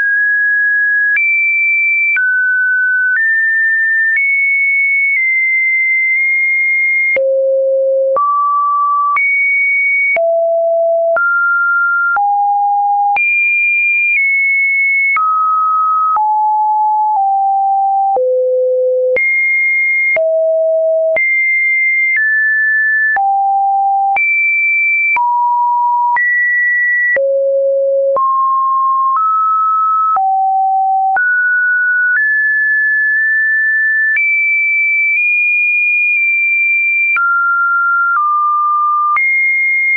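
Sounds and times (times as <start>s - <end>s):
sine-wave test beeps: 0.0s - 39.9s.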